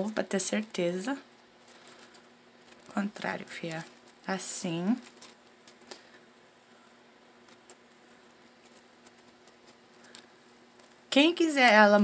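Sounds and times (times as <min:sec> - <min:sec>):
ribbon rustling in fingers: 0:01.4 - 0:06.8, 0:07.4 - 0:11.8.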